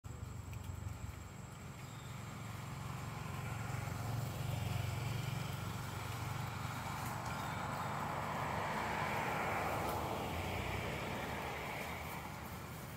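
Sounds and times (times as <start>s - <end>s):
vehicle engine rumble: 0.0s - 12.9s.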